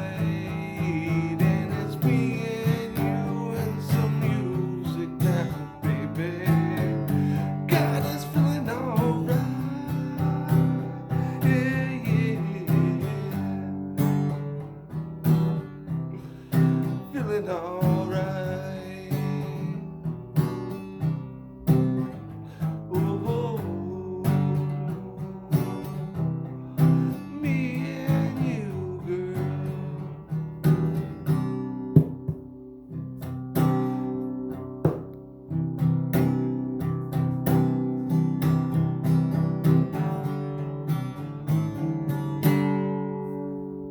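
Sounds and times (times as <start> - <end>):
acoustic guitar strummed and picked: 0.0 - 43.9.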